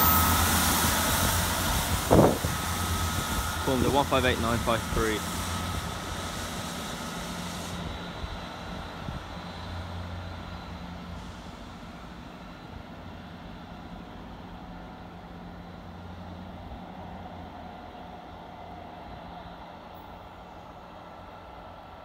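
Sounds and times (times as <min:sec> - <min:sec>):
diesel train engines humming: 0:00.0 - 0:22.0.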